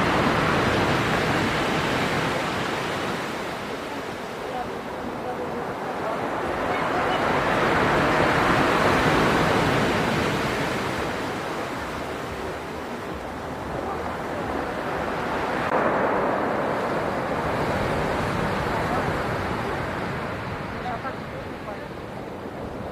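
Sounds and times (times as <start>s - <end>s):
stormy sea surf: 0.0s - 22.9s.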